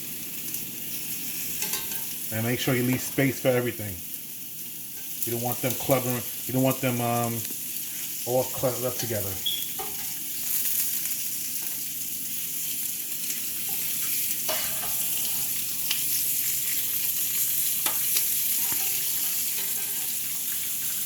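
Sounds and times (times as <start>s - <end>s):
squash sizzling on a hot grill: 0.0s - 21.0s.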